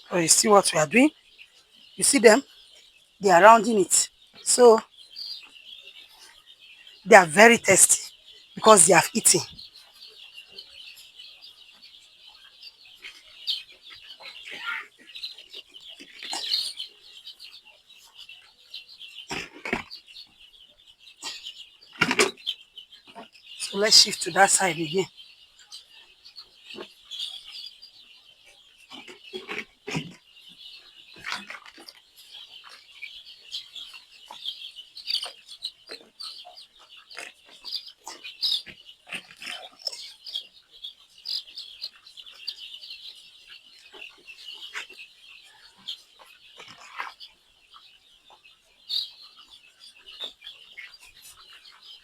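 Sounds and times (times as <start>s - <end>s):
chicks peeping: 0.0s - 52.0s.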